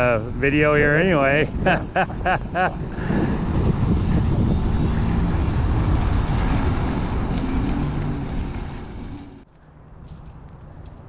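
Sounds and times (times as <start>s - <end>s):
watercraft engine rumbling: 0.0s - 9.5s.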